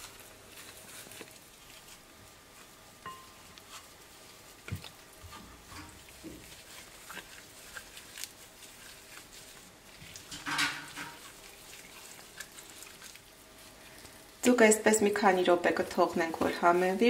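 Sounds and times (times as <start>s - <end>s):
wet squishing of raw fish: 0.0s - 17.0s.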